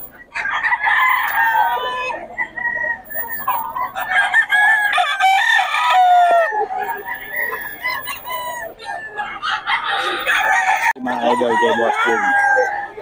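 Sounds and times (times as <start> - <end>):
roosters crowing: 0.0 - 13.0.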